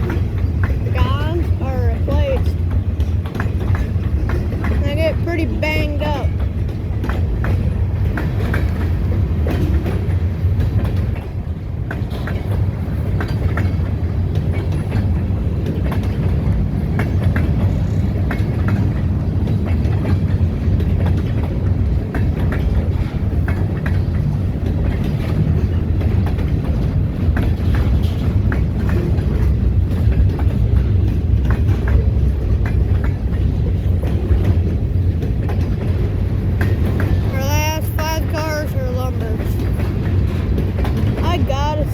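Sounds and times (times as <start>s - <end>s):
train wheels rumbling on rail: 0.0s - 41.9s
wheels and cars clanking: 0.0s - 41.9s.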